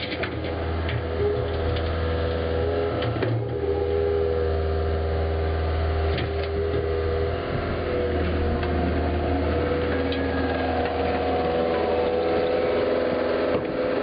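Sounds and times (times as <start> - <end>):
diesel engine running: 0.0 - 14.0
steady whine: 0.0 - 14.0.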